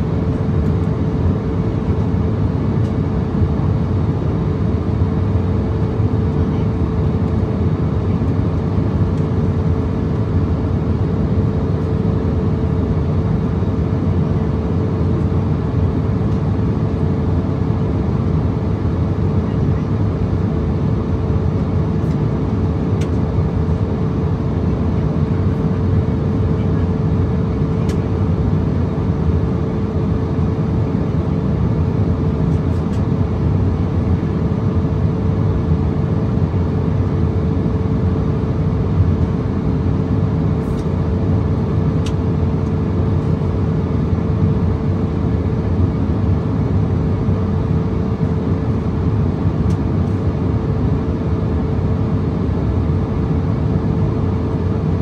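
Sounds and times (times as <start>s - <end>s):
cabin airflow and engine drone: 0.0s - 55.0s
steady hum tone: 0.0s - 55.0s.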